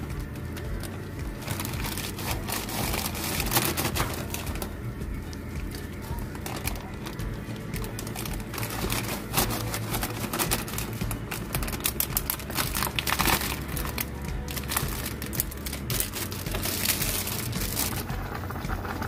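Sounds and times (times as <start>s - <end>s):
background music: 0.0s - 19.0s
plastic zipper bag crinkling: 0.4s - 4.7s, 5.7s - 19.0s.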